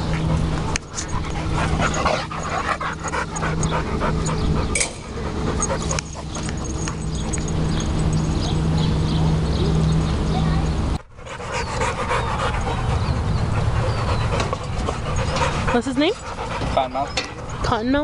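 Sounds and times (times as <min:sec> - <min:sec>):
dog panting: 0:00.0 - 0:09.0, 0:09.9 - 0:18.0.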